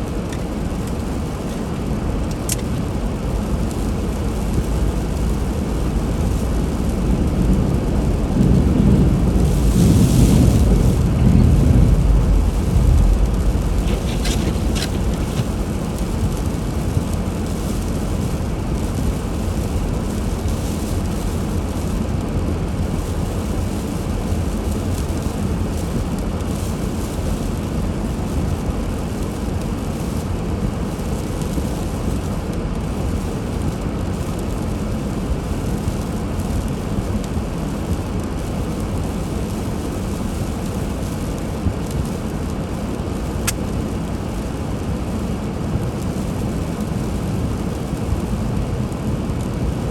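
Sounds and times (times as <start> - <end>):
car engine and road noise: 0.0 - 30.9, 31.5 - 49.9.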